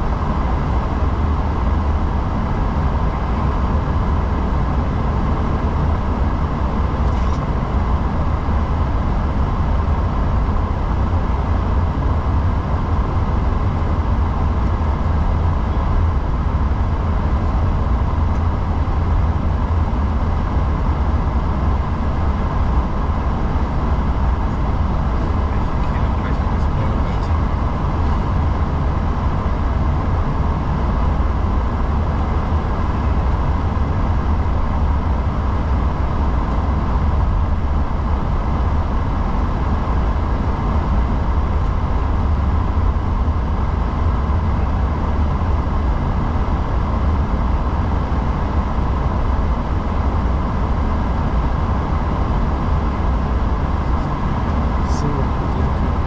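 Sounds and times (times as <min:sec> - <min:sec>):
aircraft cockpit low rumble: 0:00.0 - 0:56.0.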